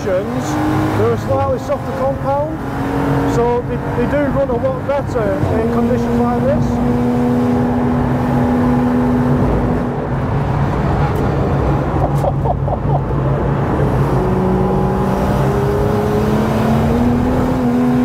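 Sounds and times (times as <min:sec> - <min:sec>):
race car engine revving: 0:00.0 - 0:18.0
tyre and road noise: 0:00.0 - 0:18.0.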